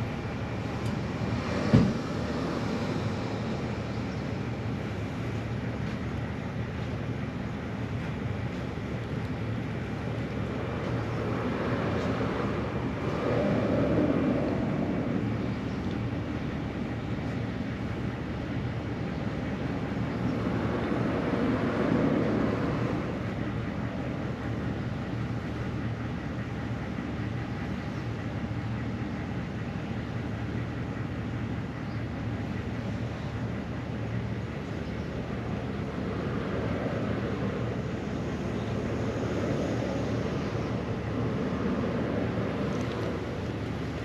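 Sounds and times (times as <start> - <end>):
traffic hum: 0.0 - 44.0
vehicles passing: 0.0 - 44.0.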